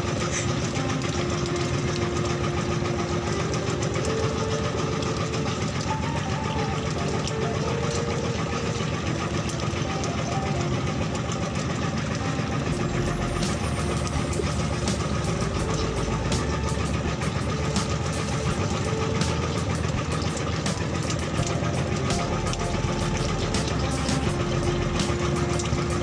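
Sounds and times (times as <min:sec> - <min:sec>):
boat engine chugging: 0:00.0 - 0:26.0.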